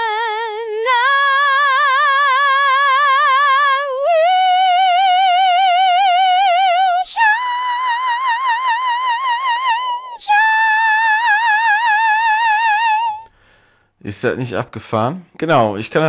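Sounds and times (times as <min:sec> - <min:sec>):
synthetic female singing voice: 0:00.0 - 0:13.3.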